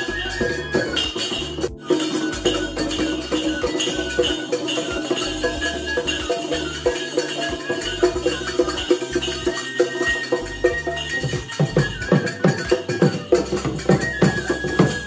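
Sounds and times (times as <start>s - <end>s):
dhol drum beating: 0.0s - 15.0s
jingling metal percussion: 0.0s - 15.0s.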